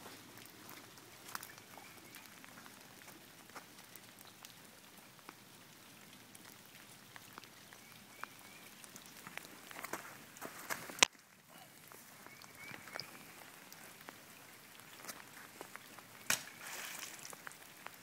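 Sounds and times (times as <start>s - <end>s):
rain falling into puddles: 0.0s - 18.0s.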